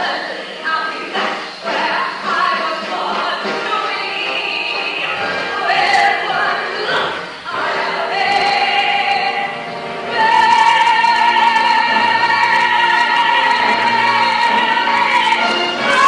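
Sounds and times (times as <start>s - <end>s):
choir and orchestra: 0.0s - 16.0s
woman singing: 0.0s - 16.0s.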